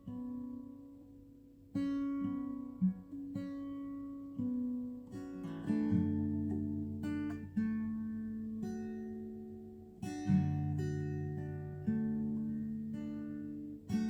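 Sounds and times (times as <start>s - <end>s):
acoustic guitar slow chords: 0.0s - 14.0s.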